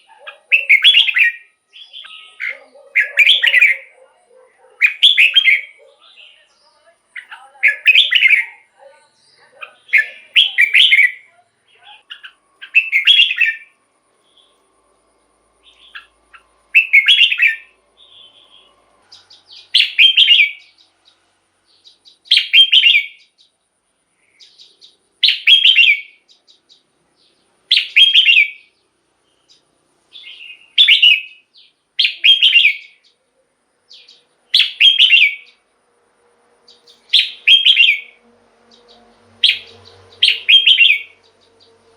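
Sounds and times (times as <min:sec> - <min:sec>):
bulbul singing warbled phrases: 0:00.0 - 0:14.6, 0:15.6 - 0:23.6, 0:24.2 - 0:35.7, 0:36.7 - 0:41.9.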